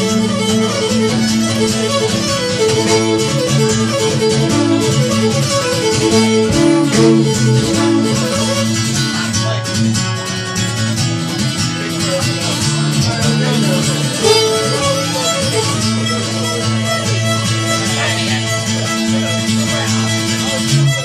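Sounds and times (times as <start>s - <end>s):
fiddle playing a tune: 0.0s - 21.0s
strummed acoustic guitar: 0.0s - 21.0s.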